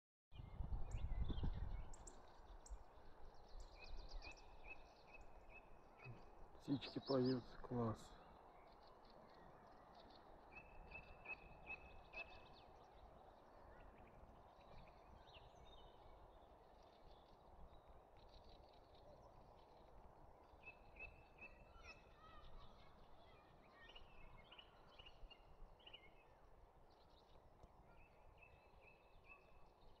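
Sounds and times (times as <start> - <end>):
songbirds singing: 0.4 - 30.0
low steady background noise: 0.5 - 30.0.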